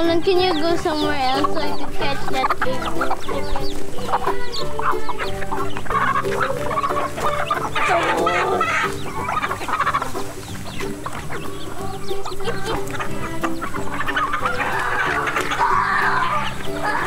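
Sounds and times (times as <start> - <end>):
chicken wavering call: 0.0 - 17.0
chickens clucking: 0.0 - 17.0.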